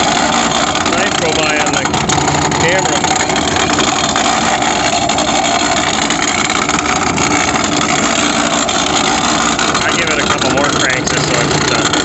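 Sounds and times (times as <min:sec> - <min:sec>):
forage chopper knife drum spinning: 0:00.0 - 0:12.0.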